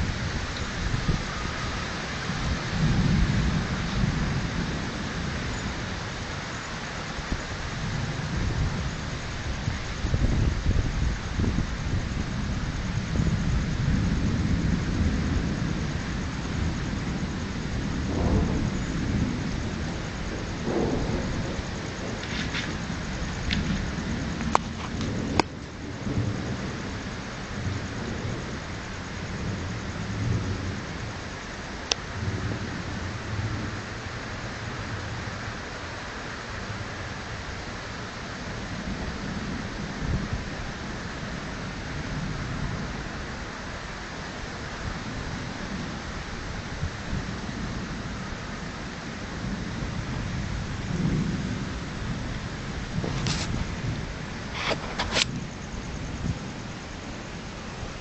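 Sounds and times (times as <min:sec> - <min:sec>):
steady rain: 0:00.0 - 0:58.0
thunder rumbling: 0:00.0 - 0:58.0.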